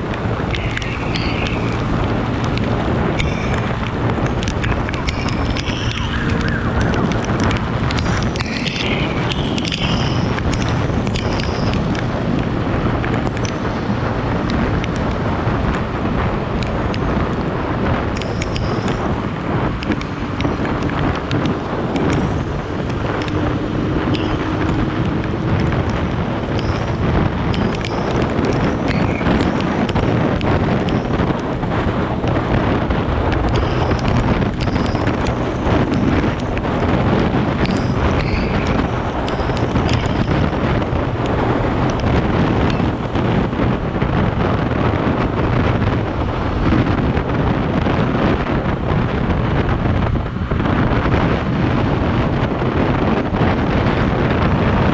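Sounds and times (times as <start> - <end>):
road and traffic noise: 0.0 - 54.9
wind buffeting microphone: 0.0 - 54.9.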